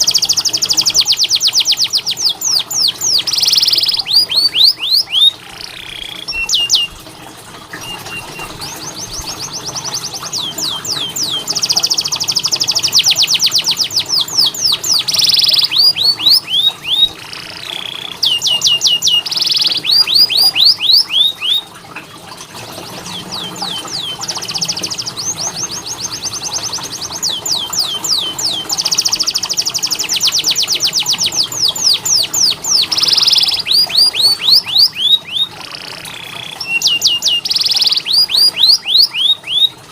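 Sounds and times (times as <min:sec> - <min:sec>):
canary singing trills: 0:00.0 - 0:07.0, 0:07.7 - 0:21.8, 0:22.7 - 0:39.9.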